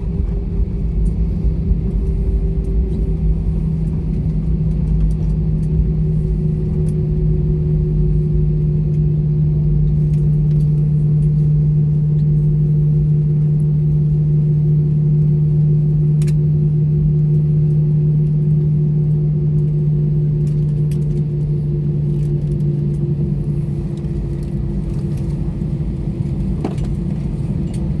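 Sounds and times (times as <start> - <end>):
aircraft mechanical drone: 0.0 - 28.0.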